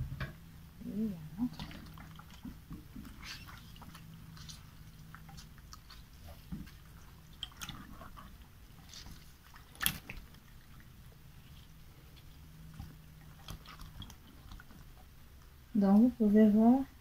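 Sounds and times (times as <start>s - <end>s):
lemon scrubbing wet fish skin: 0.8s - 15.6s.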